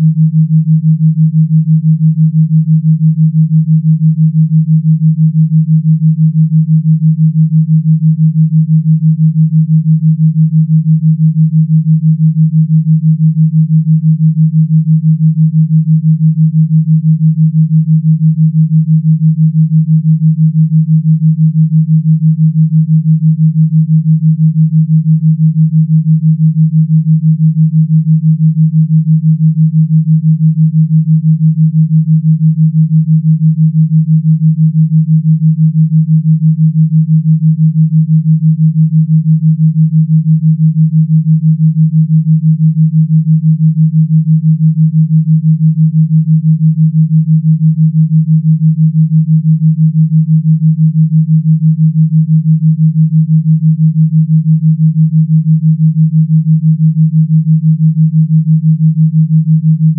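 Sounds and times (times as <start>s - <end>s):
low pulsing electronic tone: 0.0s - 52.0s, 52.6s - 59.9s.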